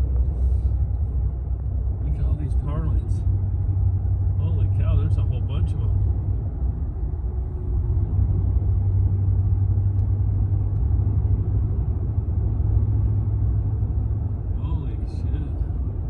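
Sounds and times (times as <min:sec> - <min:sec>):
car interior engine and road rumble: 0:00.0 - 0:16.0.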